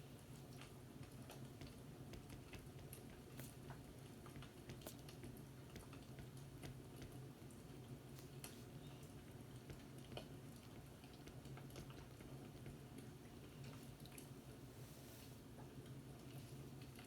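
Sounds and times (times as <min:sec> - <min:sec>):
faint fireplace crackling: 0:00.0 - 0:17.0
low steady hum: 0:00.0 - 0:17.0.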